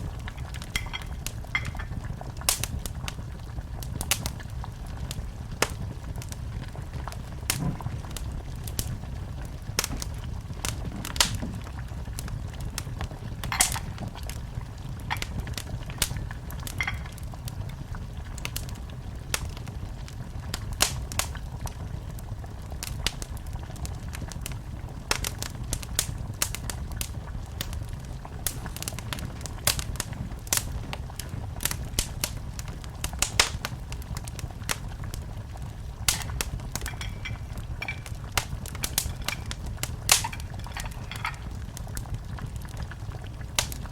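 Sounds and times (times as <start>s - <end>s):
low rumble of flames: 0.0s - 43.9s
wood fire crackling and popping: 0.0s - 43.9s.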